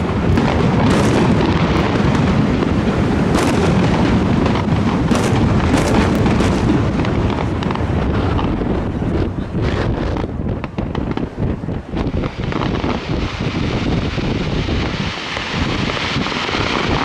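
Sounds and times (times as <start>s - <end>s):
fireworks booming and banging: 0.0s - 17.0s.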